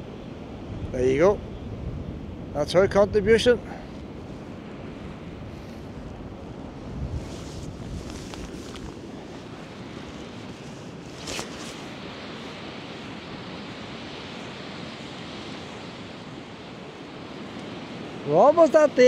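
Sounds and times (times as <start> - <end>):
wind on microphone: 0.0 - 18.4
surf washing on a beach: 0.0 - 19.0.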